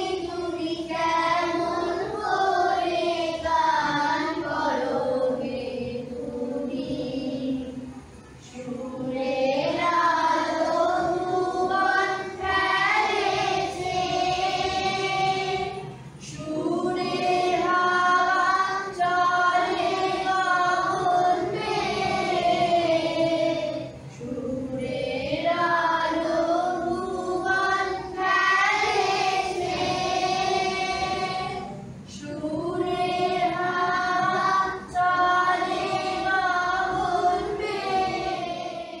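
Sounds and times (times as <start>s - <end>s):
children singing together: 0.0s - 39.0s.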